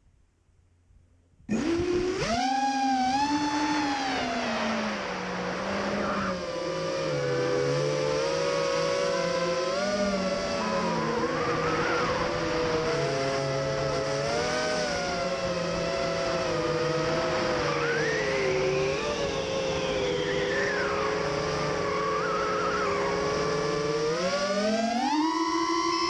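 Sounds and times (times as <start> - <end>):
quadcopter motors whining: 1.5 - 26.0.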